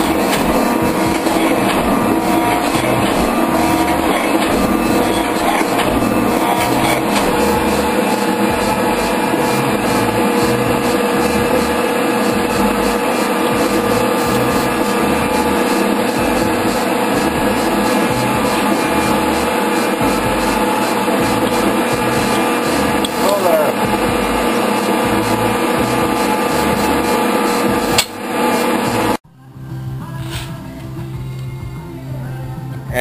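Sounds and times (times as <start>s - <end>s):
metal shaper running: 0.0s - 29.2s.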